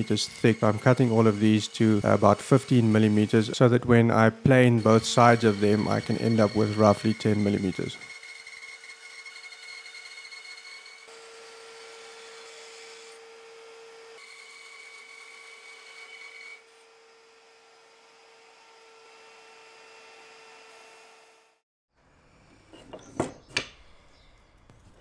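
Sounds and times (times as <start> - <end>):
bandsaw cutting wood: 0.0 - 21.6.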